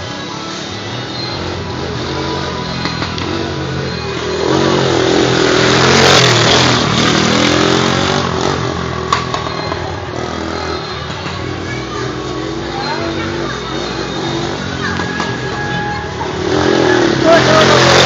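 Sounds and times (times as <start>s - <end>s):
engine running and revving: 0.0s - 18.0s.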